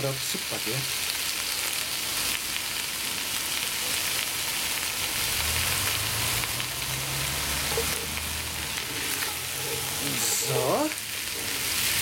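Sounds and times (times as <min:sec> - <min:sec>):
vegetables sizzling in pot: 0:00.0 - 0:12.0.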